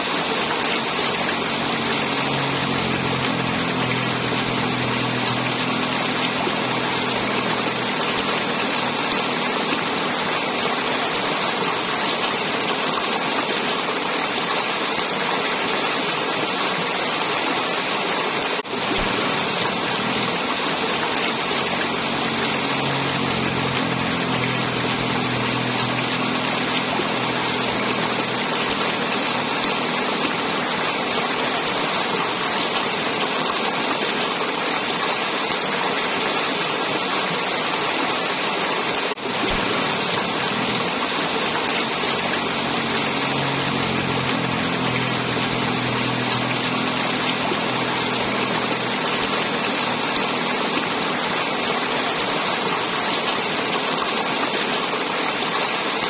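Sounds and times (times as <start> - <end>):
river water flowing and gurgling: 0.0 - 56.0.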